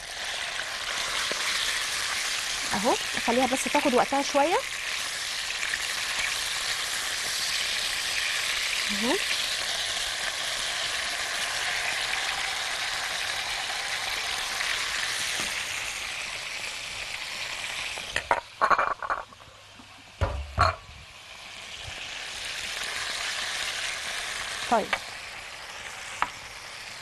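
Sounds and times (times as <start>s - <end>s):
chicken sizzling in hot oil: 0.0s - 18.6s, 20.1s - 27.0s.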